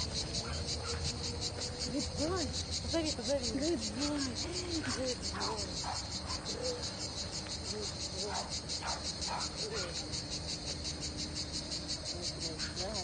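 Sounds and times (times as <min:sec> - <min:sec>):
insects pulsing shrill chorus: 0:00.0 - 0:13.0.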